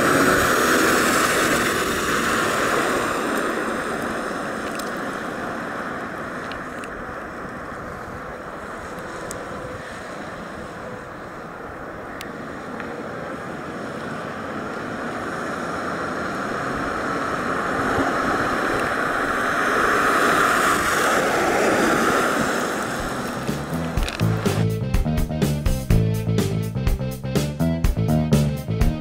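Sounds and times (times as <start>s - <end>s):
car engine and tyre noise: 0.0s - 25.4s.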